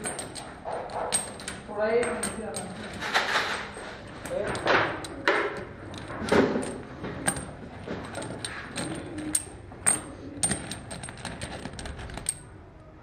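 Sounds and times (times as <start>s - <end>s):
metal sprockets clinking: 0.0s - 12.6s.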